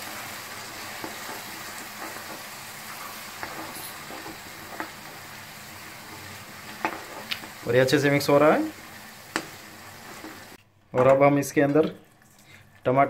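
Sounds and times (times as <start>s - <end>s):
masala sizzling in oil: 0.0s - 10.6s.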